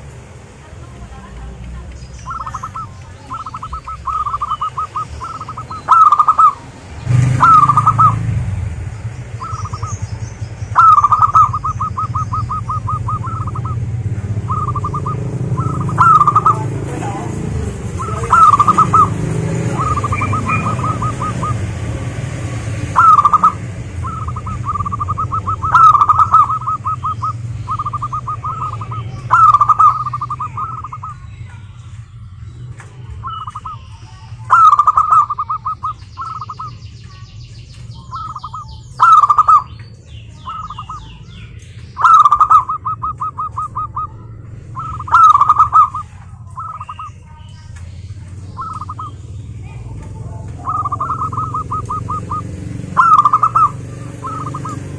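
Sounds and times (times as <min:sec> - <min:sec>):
doves cooing: 0:00.7 - 0:31.6, 0:33.1 - 0:36.9, 0:37.8 - 0:41.2, 0:41.9 - 0:54.9.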